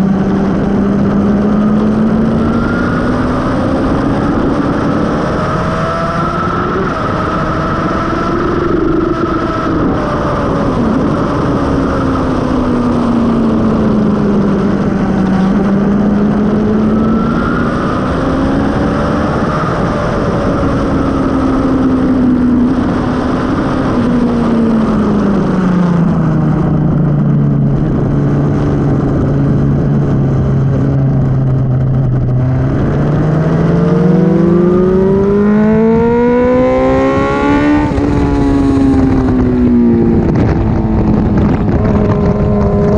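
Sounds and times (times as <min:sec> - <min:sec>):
motorcycle engine at speed: 0:00.0 - 0:42.9
wind rush: 0:00.0 - 0:42.9.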